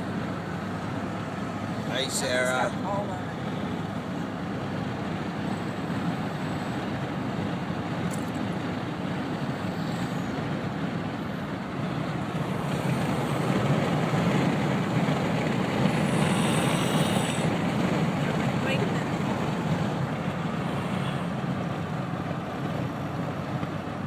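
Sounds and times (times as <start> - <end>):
road and engine noise in car: 0.0 - 24.0.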